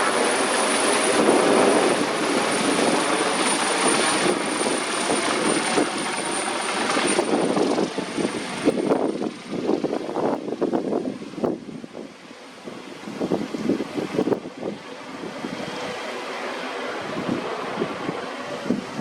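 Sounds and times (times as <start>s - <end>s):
wind buffeting microphone: 0.0s - 16.0s, 17.0s - 19.0s
helicopter rotor and turbine: 0.0s - 19.0s.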